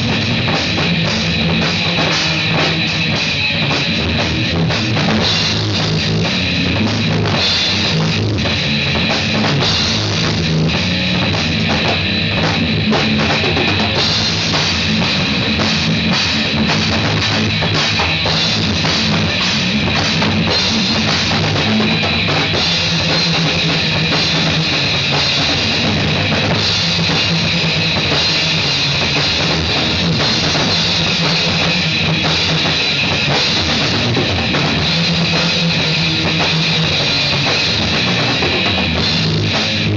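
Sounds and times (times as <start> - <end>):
bass drum and cymbal hits: 0.0 - 39.9
loud rock music: 0.0 - 39.9.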